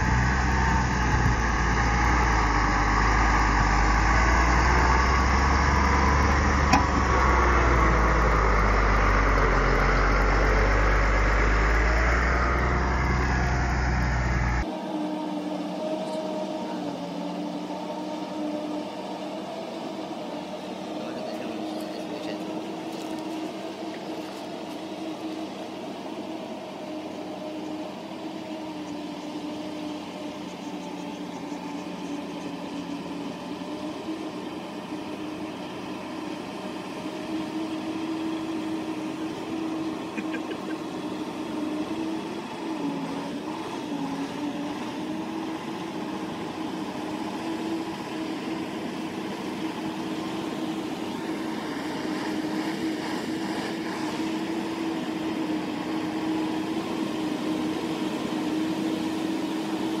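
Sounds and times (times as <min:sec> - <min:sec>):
truck diesel engine running: 0:00.0 - 1:00.0.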